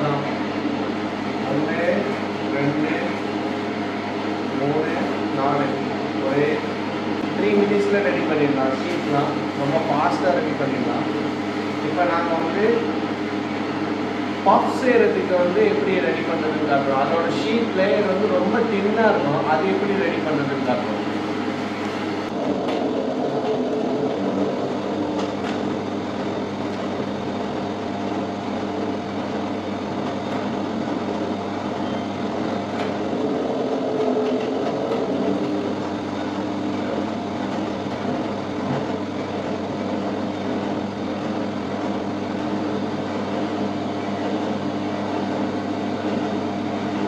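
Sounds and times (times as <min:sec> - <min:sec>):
dough sheeter motor humming: 0:00.0 - 0:47.0.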